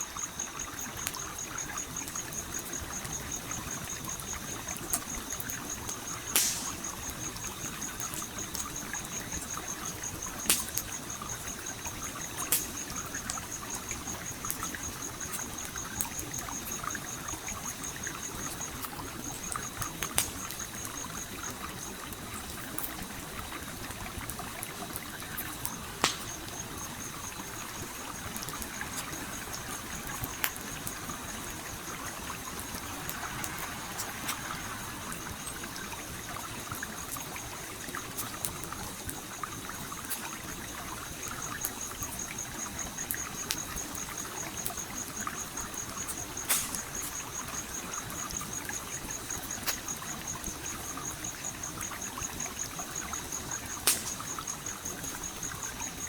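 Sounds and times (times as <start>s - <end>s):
stream flowing: 0.0s - 56.0s
campfire crackling and popping: 0.1s - 56.0s.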